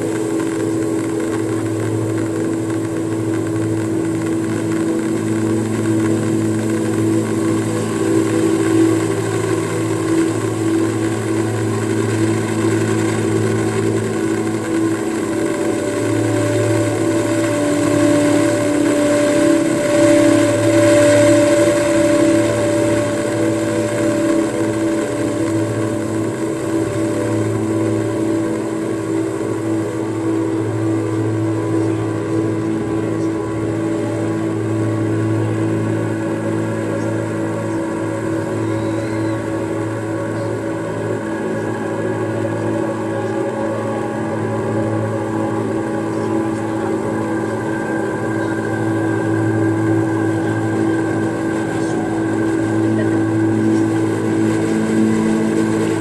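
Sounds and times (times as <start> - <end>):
ambient drone music: 0.0 - 56.0.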